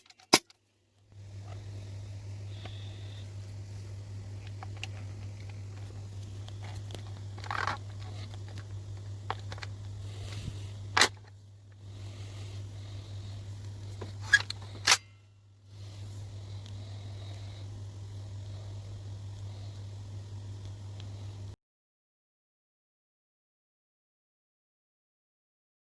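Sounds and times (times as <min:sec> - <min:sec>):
steady low hum: 0:00.0 - 0:21.6.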